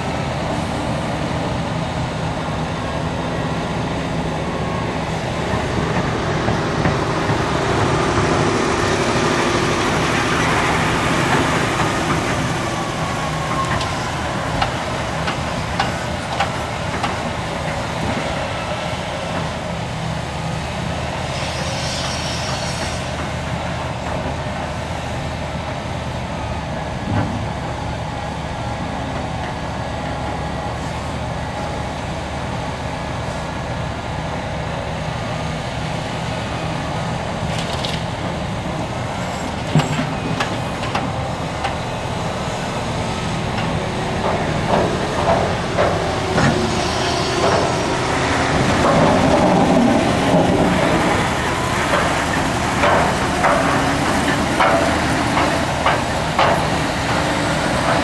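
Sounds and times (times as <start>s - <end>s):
dump trucks idling: 0.0s - 58.0s
excavator diesel engine under load: 0.0s - 58.0s.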